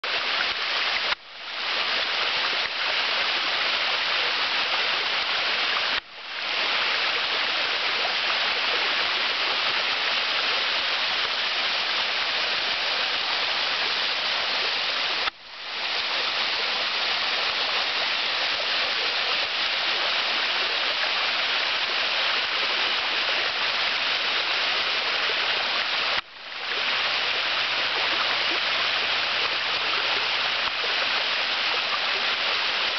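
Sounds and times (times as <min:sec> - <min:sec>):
small waterfall splashing: 0:00.0 - 0:32.9.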